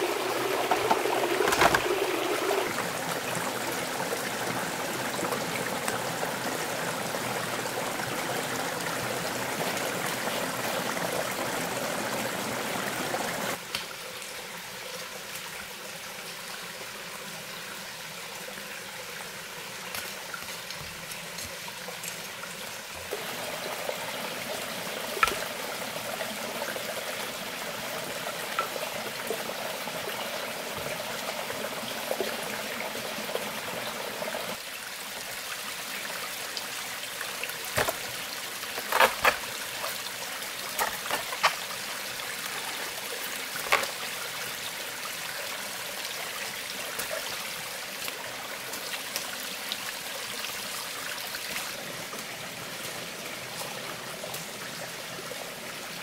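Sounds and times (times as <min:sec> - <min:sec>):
stream water running over rocks: 0:00.0 - 0:56.0.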